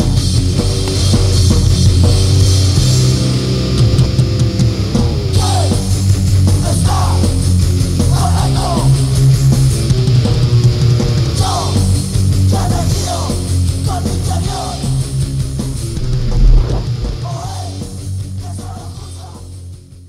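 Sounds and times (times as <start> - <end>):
punk rock band playing: 0.0 - 16.1.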